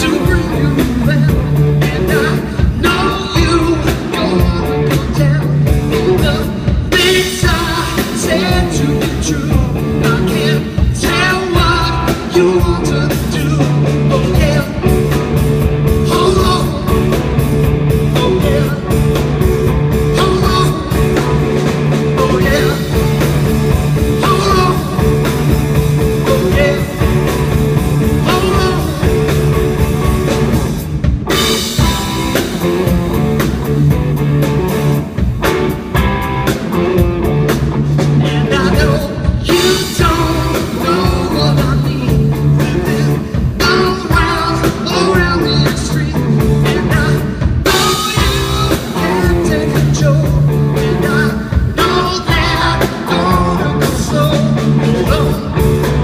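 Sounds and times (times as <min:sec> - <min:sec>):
drum kit: 0:00.0 - 0:56.0
electric guitar: 0:00.0 - 0:56.0
rock band playing live: 0:00.0 - 0:56.0.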